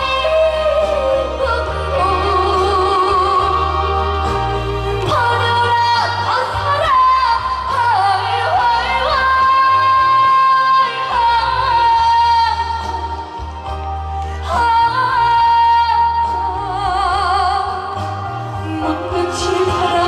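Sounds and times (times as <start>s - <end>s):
band accompaniment: 0.0s - 20.0s
steady bass line: 0.0s - 20.0s
woman singing: 0.0s - 20.0s.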